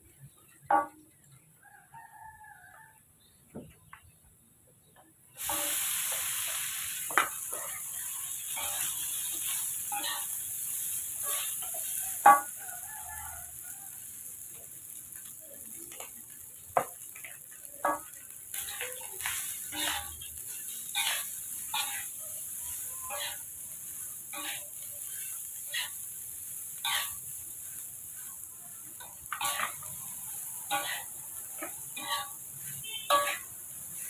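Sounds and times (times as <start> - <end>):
food sizzling in hot oil: 5.3 - 34.0.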